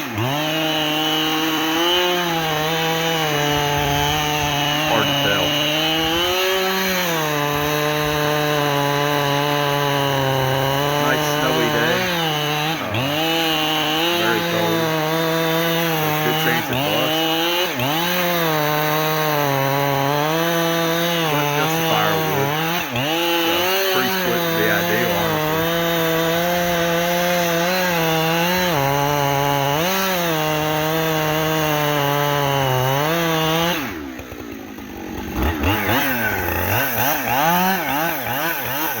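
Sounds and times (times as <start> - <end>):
chainsaw cutting tree: 0.0 - 39.0.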